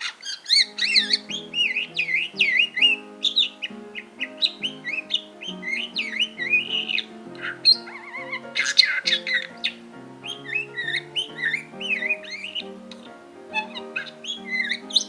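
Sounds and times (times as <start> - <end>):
budgerigar warbling: 0.0 - 15.0
background music with held notes: 0.6 - 15.0.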